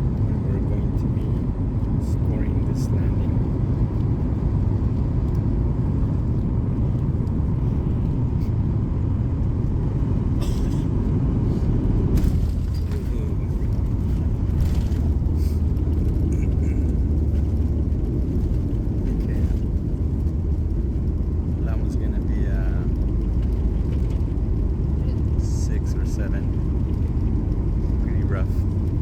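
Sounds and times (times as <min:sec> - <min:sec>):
airliner engine rumble: 0:00.0 - 0:29.0.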